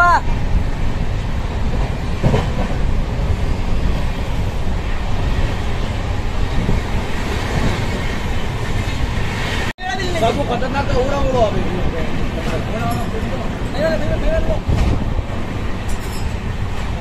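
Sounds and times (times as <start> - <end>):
train wheels on track: 0.0 - 17.0.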